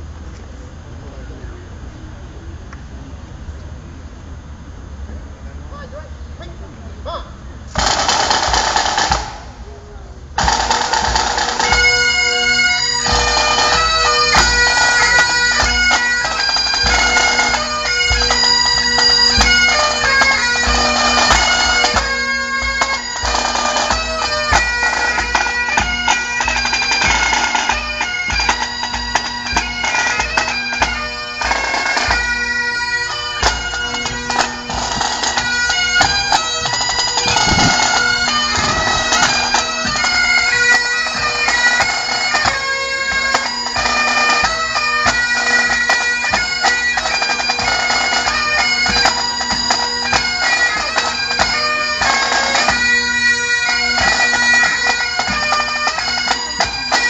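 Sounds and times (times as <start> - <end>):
bagpipes playing a march: 7.7 - 9.6, 10.4 - 57.0.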